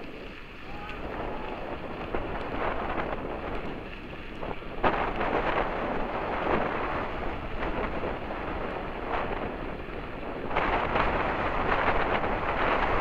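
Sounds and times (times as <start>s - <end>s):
tyres rumbling on gravel: 0.0s - 13.0s
wind buffeting microphone: 0.0s - 13.0s.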